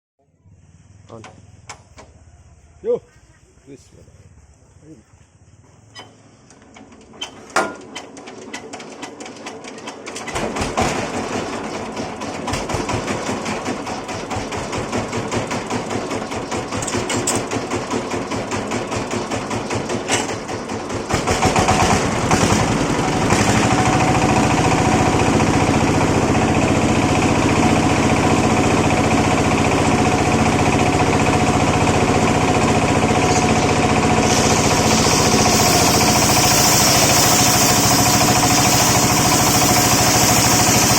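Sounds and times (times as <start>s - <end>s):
sawmill engine running: 5.0s - 40.9s.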